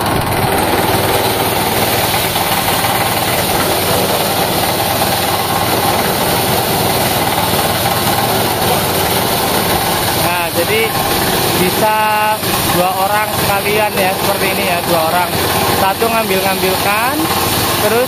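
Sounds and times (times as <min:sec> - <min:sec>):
small petrol engine running: 0:00.0 - 0:18.0.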